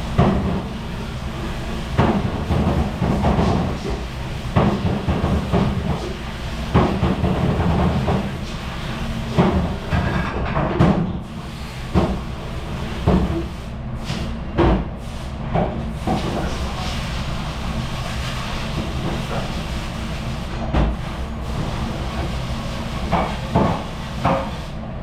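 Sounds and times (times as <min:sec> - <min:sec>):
machine hum and hiss: 0:00.0 - 0:25.0.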